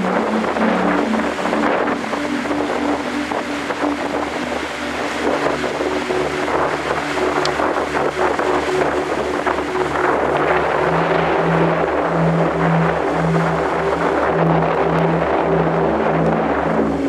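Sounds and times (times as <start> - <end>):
low pulsing hum: 0.0 - 17.0
strong wind buffeting microphone: 0.0 - 17.0.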